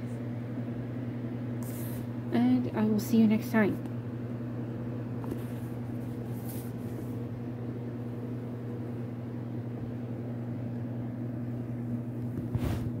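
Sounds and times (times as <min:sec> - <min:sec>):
steady low motor hum: 0:00.0 - 0:13.0.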